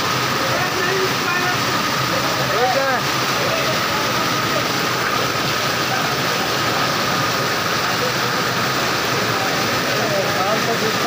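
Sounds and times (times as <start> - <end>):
heavy rain falling: 0.0 - 11.0
water splashing onto pavement: 0.0 - 11.0.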